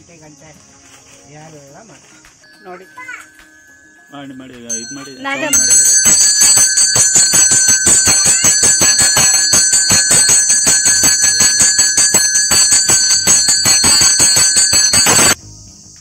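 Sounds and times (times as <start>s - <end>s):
handbells ringing: 2.4s - 15.4s.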